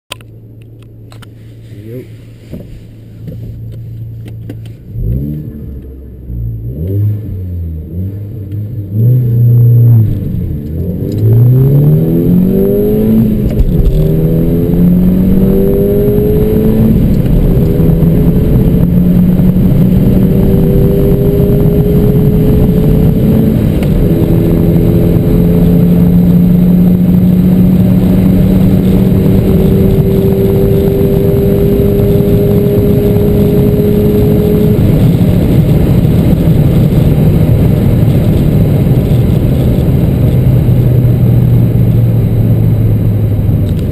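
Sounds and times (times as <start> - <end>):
car engine revving and accelerating: 3.5 - 43.9.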